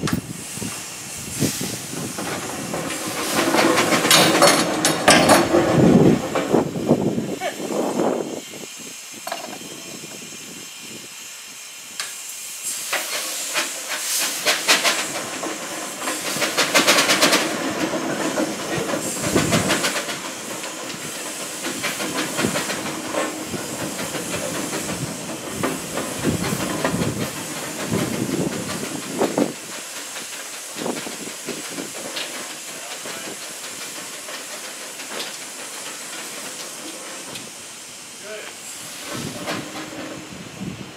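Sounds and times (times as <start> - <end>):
quick sharp steam beats: 0.0 - 40.9
steam engine hissing: 0.0 - 40.9.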